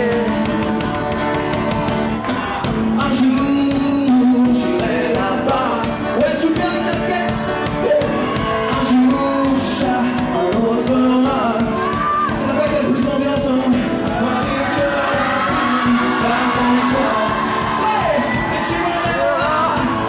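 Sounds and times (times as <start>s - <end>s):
rock band with singer: 0.0s - 20.0s.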